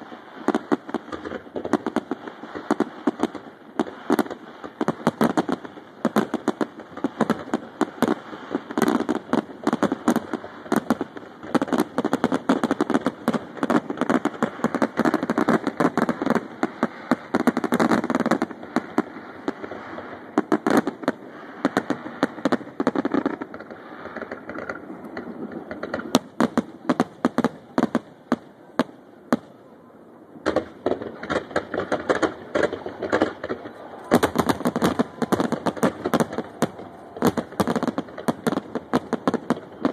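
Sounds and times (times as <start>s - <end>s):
fireworks bangs: 0.0s - 29.7s, 30.4s - 39.9s.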